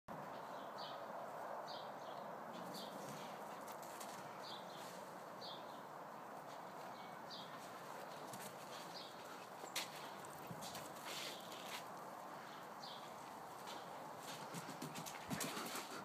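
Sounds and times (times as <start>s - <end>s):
outdoor ambience hiss: 0.1s - 16.0s.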